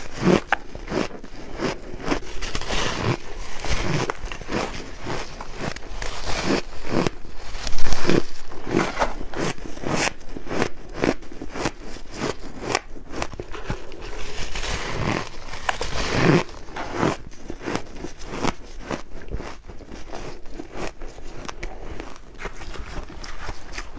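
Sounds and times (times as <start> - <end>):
person chewing crunchy frost: 0.0 - 23.9.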